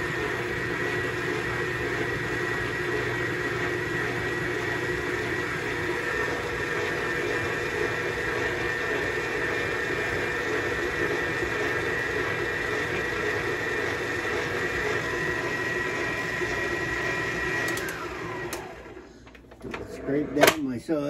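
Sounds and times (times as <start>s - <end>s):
stand mixer motor whine: 0.0s - 20.6s.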